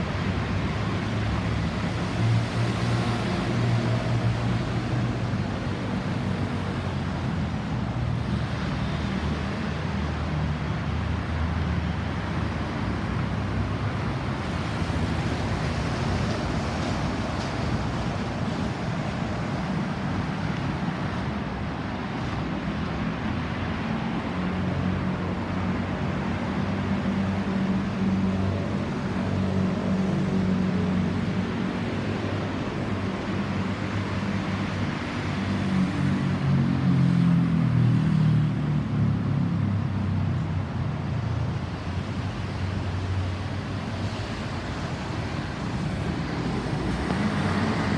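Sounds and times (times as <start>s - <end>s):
tyre and road noise: 0.0s - 47.9s.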